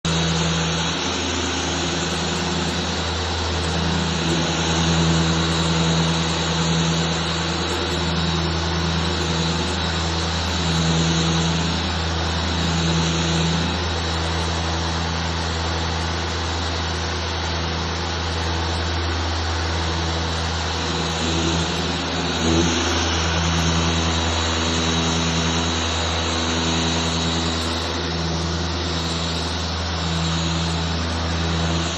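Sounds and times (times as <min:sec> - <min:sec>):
machine humming: 0:00.0 - 0:31.9.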